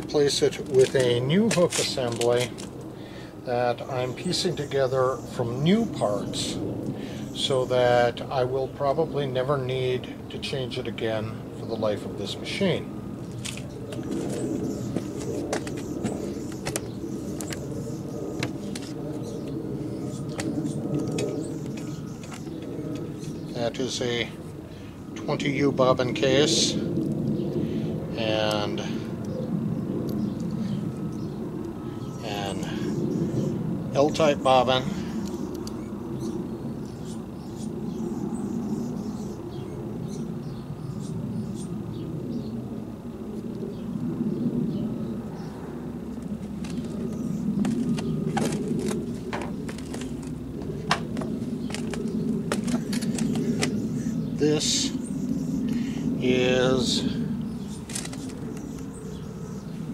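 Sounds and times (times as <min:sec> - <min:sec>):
distant traffic rumble: 0:00.0 - 0:59.9.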